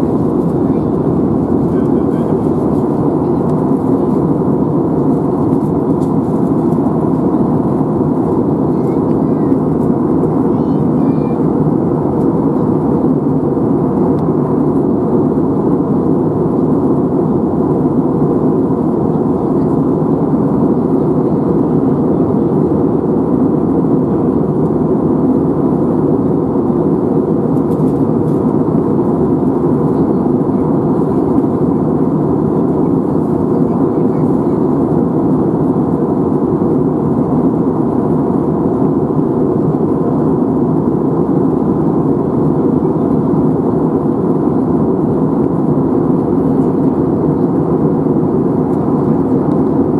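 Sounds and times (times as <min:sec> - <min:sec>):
airliner cabin engine rush: 0:00.0 - 0:49.9.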